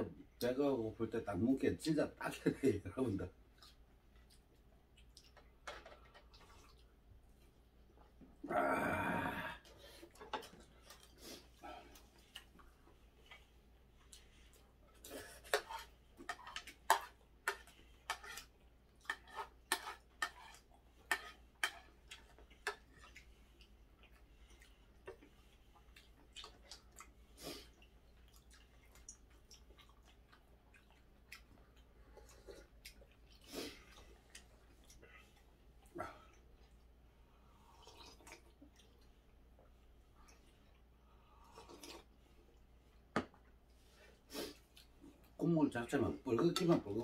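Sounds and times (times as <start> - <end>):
chewing: 3.5 - 8.1, 9.6 - 36.9, 37.5 - 45.4.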